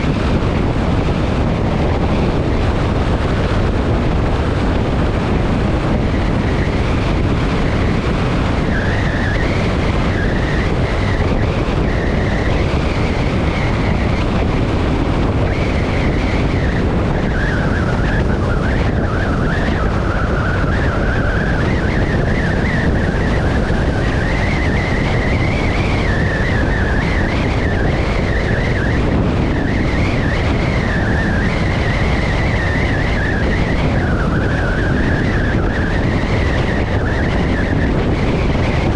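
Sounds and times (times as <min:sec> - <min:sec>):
motorcycle engine droning: 0:00.0 - 0:38.9
wind and road noise: 0:00.0 - 0:38.9.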